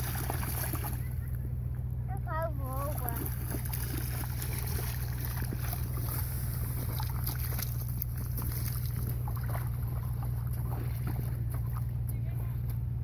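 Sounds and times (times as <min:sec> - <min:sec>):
boots splashing through slushy puddle: 0:00.0 - 0:01.2, 0:02.9 - 0:12.8
steady low rumble: 0:00.0 - 0:13.0.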